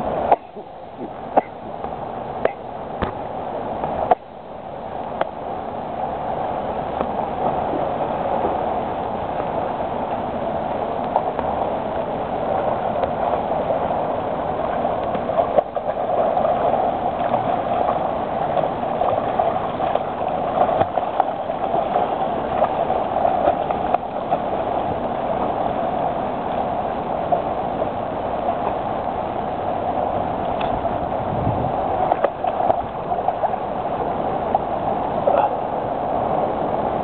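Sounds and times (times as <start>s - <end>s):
swimmer splashing: 0.0s - 37.0s
swimming pool water noise: 0.0s - 37.0s.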